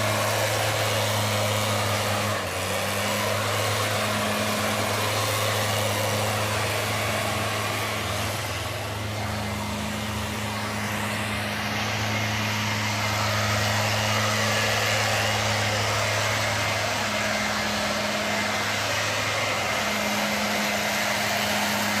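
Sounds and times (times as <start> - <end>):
blower air rushing: 0.0 - 22.0
small petrol engine running: 0.0 - 22.0.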